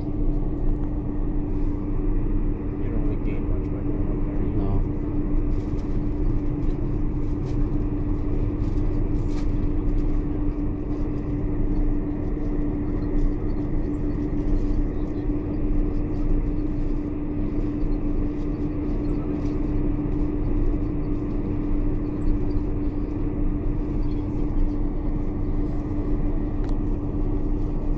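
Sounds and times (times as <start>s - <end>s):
airliner cabin engine drone: 0.0s - 27.9s.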